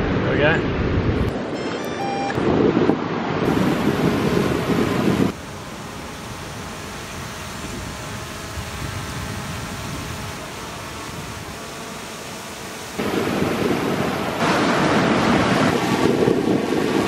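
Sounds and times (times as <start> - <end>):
wind rush: 0.0 - 1.6, 2.4 - 17.0
drone propellers humming: 1.0 - 17.0
surf: 3.2 - 17.0.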